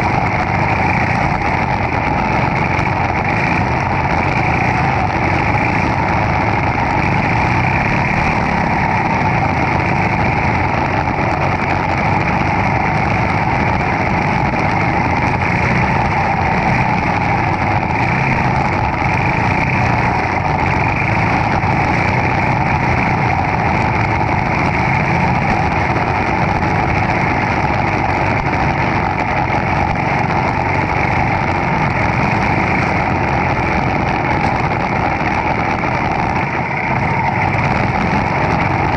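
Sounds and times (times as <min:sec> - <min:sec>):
kart engine droning: 0:00.0 - 0:38.9.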